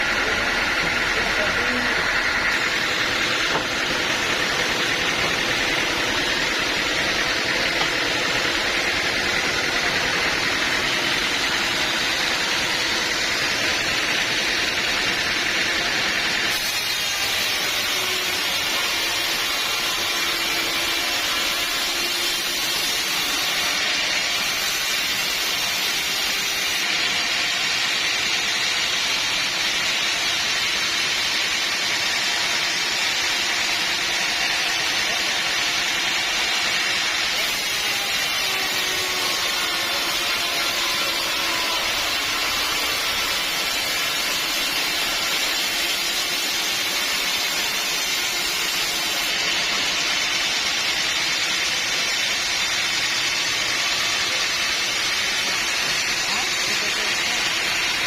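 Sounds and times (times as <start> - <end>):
sawmill saw whining: 0.0 - 58.0.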